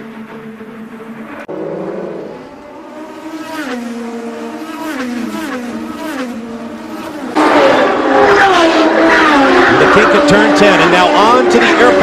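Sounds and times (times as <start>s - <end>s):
loud race engine: 0.0s - 12.0s
race car engine downshifting: 0.0s - 12.0s.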